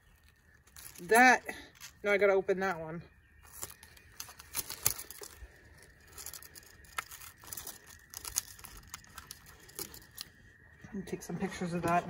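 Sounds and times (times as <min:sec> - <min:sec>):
cocoon silk crackling and tearing: 0:00.0 - 0:02.6, 0:03.2 - 0:10.8.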